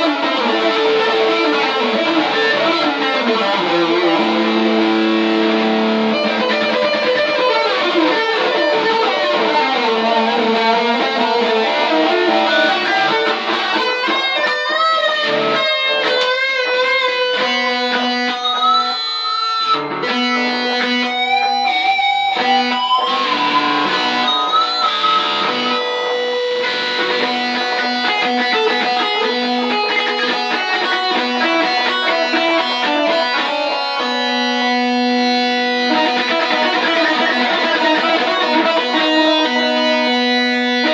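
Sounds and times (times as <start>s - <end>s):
electric guitar with echo: 0.0s - 40.9s.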